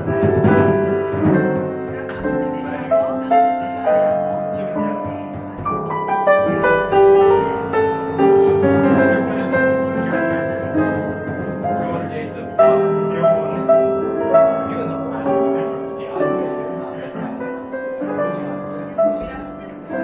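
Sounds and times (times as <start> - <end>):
live jazz piano with band: 0.0 - 20.0.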